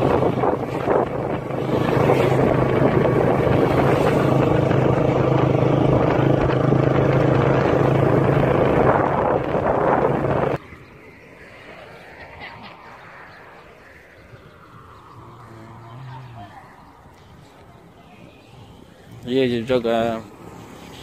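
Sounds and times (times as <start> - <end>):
motorcycle engine droning: 0.0 - 21.0
wind and road rush: 0.0 - 21.0.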